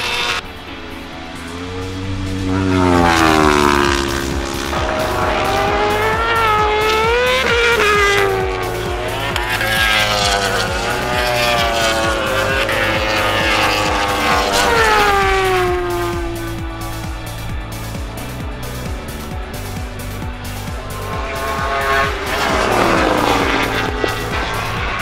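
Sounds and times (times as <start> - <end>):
motorcycle engines revving past: 0.0 - 25.0.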